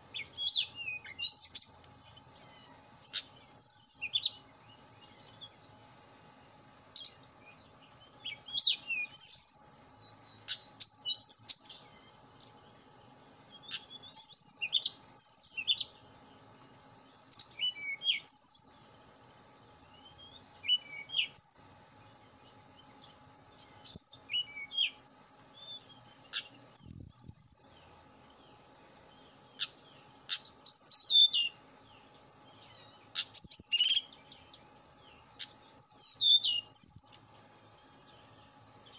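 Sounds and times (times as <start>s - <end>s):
bird singing high chirps: 0.0s - 16.0s, 16.9s - 18.8s, 19.4s - 21.7s, 22.4s - 37.2s.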